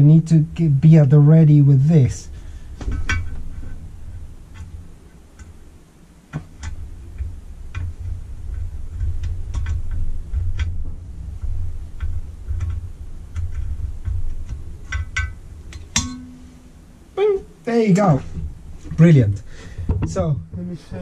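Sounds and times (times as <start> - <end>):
low handling rumble: 0.0 - 21.0.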